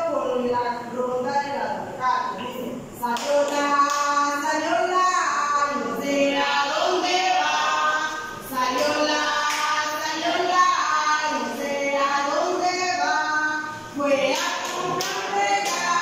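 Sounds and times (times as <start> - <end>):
women and girls singing: 3.0 - 16.0.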